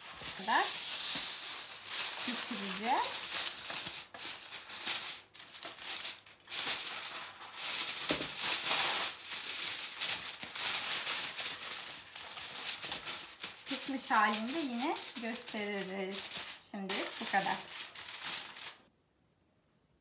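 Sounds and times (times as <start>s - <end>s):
aluminium foil crinkling: 0.0s - 18.9s.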